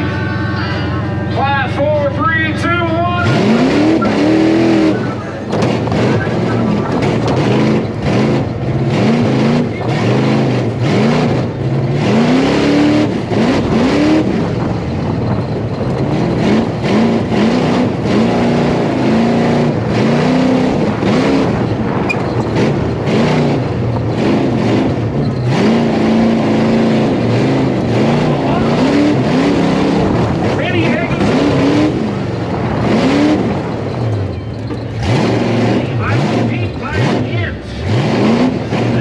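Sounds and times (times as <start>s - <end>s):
truck engines revving: 0.0s - 39.0s.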